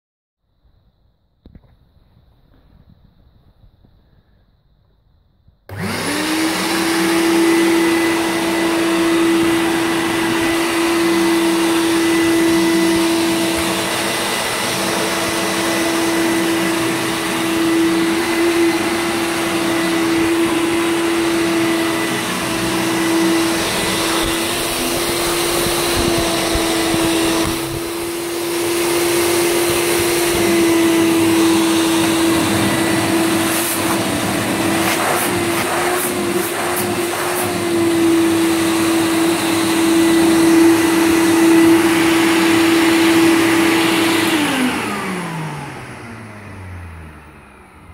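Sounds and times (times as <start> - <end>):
vacuum cleaner whining: 5.7 - 47.9.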